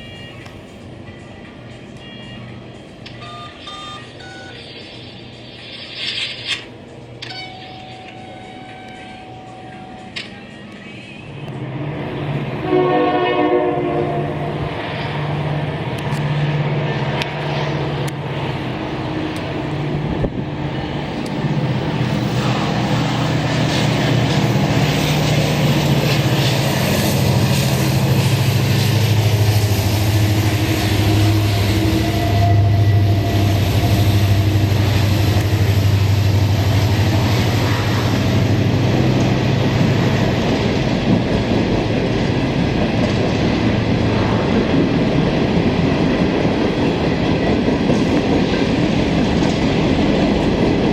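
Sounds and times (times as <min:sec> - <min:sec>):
diesel locomotive engines droning: 0:00.0 - 0:50.9
train wheels rumbling on rails: 0:04.8 - 0:50.9.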